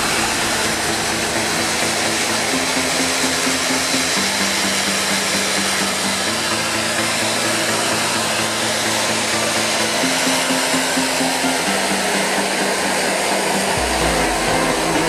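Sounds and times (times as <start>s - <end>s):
turboprop engines whining: 0.0s - 15.0s.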